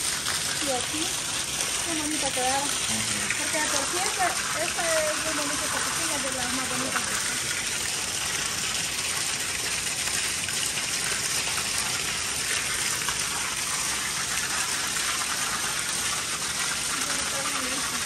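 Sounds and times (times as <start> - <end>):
water gushing onto tile floor: 0.0 - 18.0.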